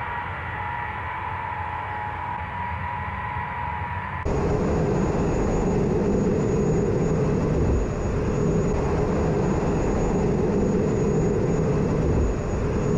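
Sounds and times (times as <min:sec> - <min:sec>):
jet engine rumble and whine: 0:00.0 - 0:12.9.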